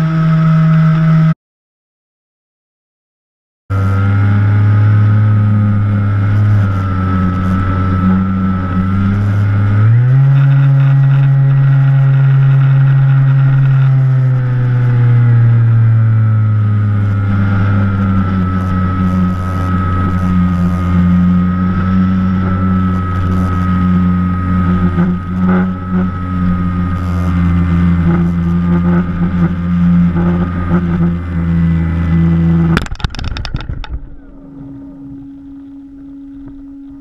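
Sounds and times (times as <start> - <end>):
model airplane motor drone: 0.0 - 1.4, 3.7 - 37.0.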